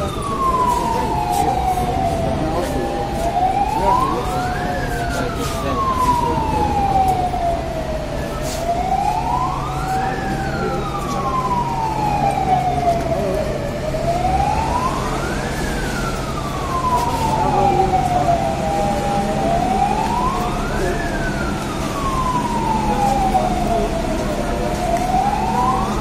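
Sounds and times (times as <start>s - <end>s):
fainter second siren tone: 0.0s - 26.0s
fire engine siren wailing: 0.0s - 26.0s.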